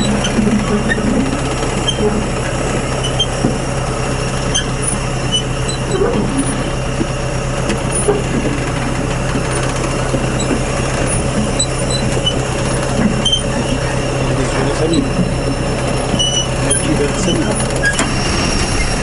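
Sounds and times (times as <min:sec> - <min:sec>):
planter ticks and rattles: 0:00.0 - 0:18.8
tractor engine running: 0:00.0 - 0:19.0.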